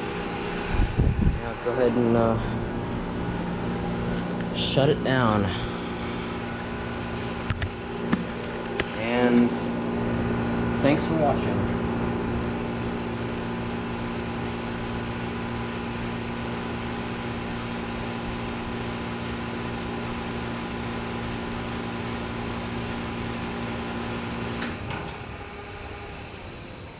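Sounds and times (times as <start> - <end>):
compressor hum: 0.0 - 26.9
condenser fan noise: 0.0 - 26.9.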